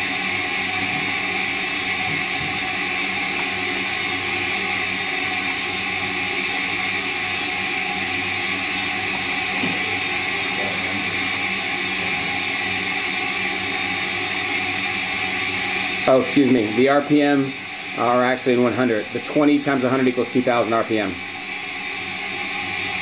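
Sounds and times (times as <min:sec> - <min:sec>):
low motor hum: 0:00.0 - 0:23.0
spin dryer rushing hiss: 0:00.0 - 0:23.0.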